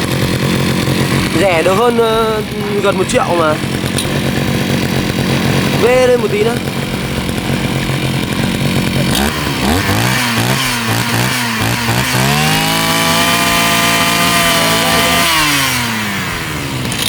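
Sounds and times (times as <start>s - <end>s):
brushcutter engine revving: 0.0s - 17.0s.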